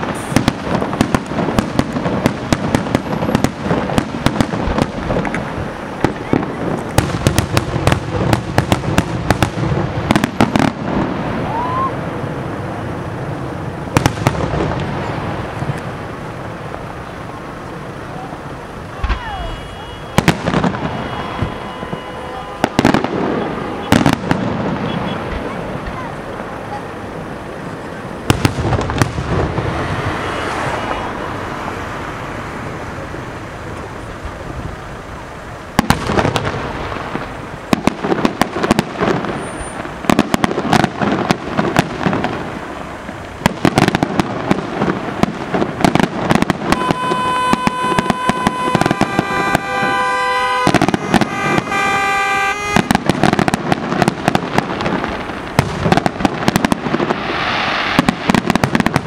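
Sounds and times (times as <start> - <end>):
fireworks crackling and banging: 0.0 - 59.0.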